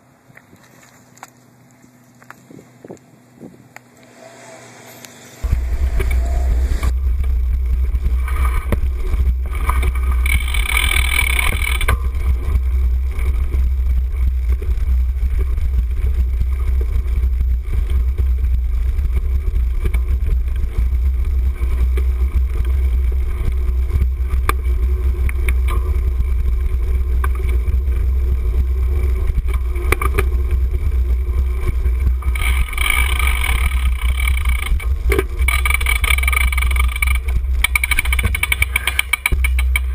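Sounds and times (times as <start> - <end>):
wind buffeting microphone: 2.4 - 3.8, 5.4 - 39.9
bike rattling over rough ground: 5.4 - 39.9.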